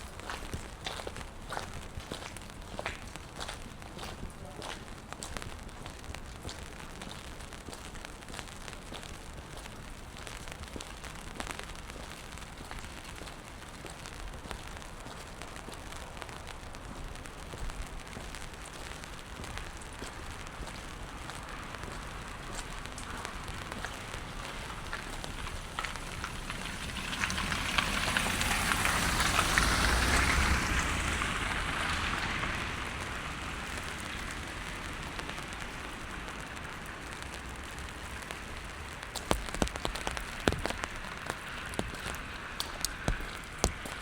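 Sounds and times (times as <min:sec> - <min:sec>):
rain on wet pavement: 0:00.0 - 0:44.0.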